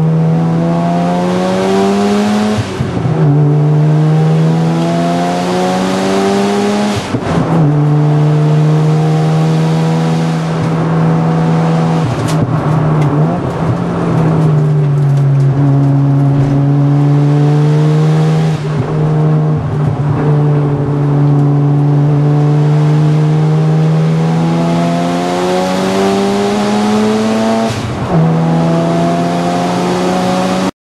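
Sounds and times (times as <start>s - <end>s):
rotary engine revving: 0.0s - 30.7s.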